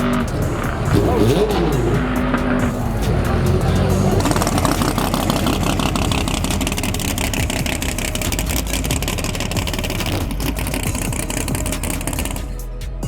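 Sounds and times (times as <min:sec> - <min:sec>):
drag car engine at high revs: 0:00.0 - 0:12.6.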